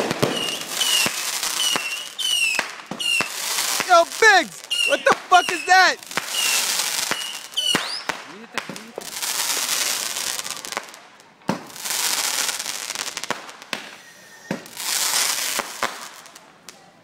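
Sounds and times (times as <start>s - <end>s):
fireworks bangs: 0.0s - 16.4s
fireworks crackling hiss: 0.0s - 16.9s.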